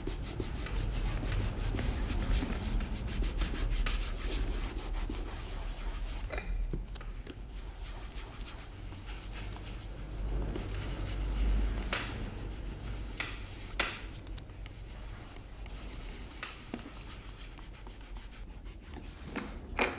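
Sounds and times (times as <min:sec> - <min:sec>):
shoe polishing rubbing strokes: 0:00.0 - 0:06.4, 0:07.2 - 0:19.2.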